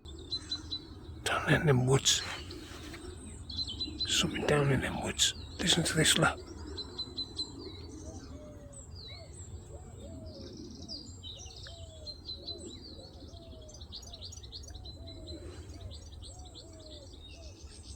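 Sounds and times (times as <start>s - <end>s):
woodland birds chirping: 0.0s - 17.8s.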